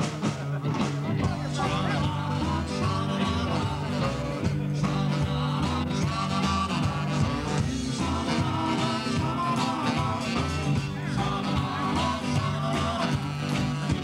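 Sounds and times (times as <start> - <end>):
bass line: 0.0 - 14.0
electric guitar: 0.0 - 14.0
keyboard: 0.0 - 14.0.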